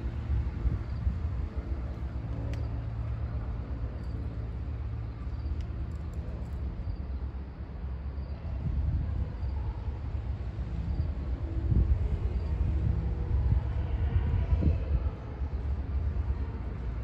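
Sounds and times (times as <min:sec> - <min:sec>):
distant freight train rumble: 0:00.0 - 0:17.0.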